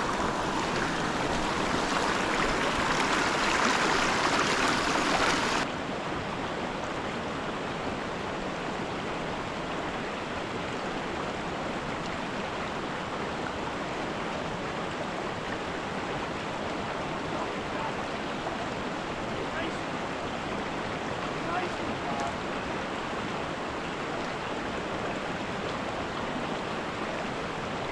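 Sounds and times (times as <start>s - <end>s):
stream flowing: 0.0s - 27.9s.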